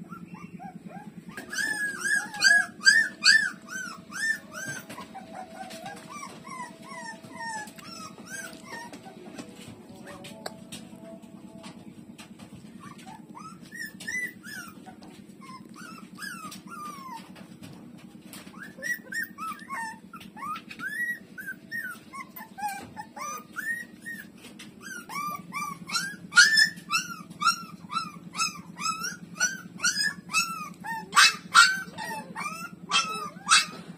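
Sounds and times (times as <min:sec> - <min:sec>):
low steady hum: 0:00.0 - 0:33.9
puppies whimpering: 0:00.0 - 0:33.9.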